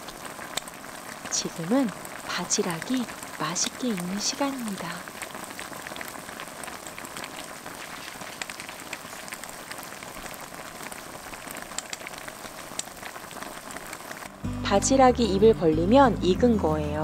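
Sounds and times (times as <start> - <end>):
pan boiling with crackling pops: 0.0 - 14.4.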